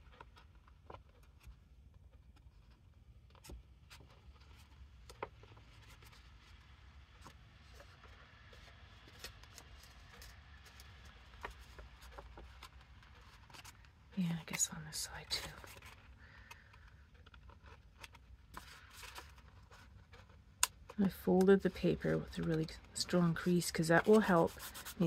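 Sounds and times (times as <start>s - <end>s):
paper handling: 2.2s - 25.0s.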